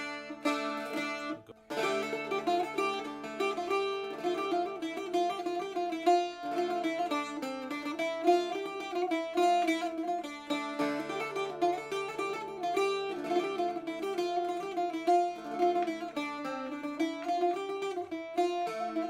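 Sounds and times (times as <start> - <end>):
plucked string tune: 0.0 - 19.0.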